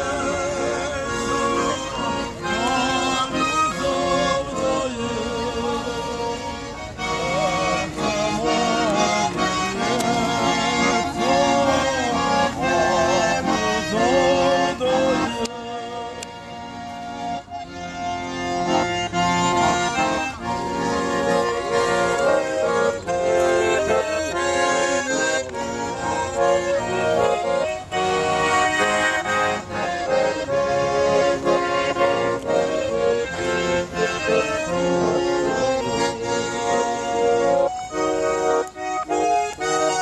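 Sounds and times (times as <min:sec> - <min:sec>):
accordion playing a tune: 0:00.0 - 0:40.0.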